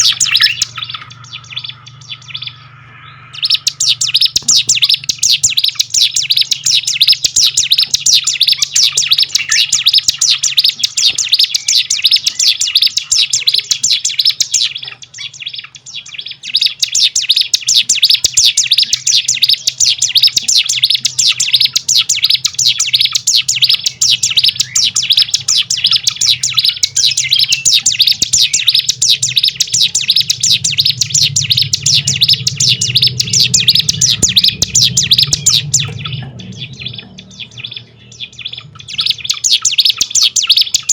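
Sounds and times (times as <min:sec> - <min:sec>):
low steady hum: 0:00.0 - 0:40.4
songbird chirping fast: 0:00.0 - 0:40.9.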